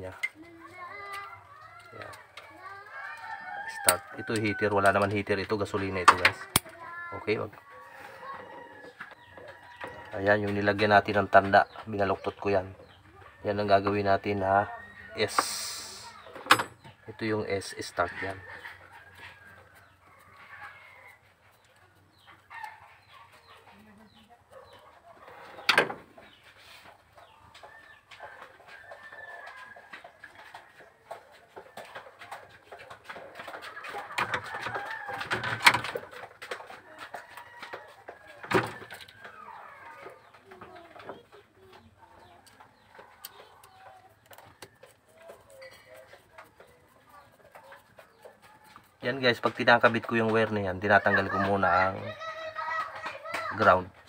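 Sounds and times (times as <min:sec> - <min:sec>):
birds chirping: 0:00.0 - 0:54.0
chickens clucking: 0:00.0 - 0:54.0.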